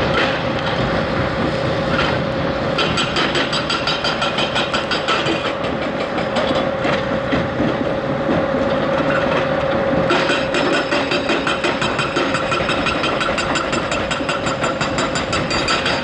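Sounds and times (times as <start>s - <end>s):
diesel engine with whine: 0.0s - 16.0s
metallic track clatter: 0.0s - 16.0s.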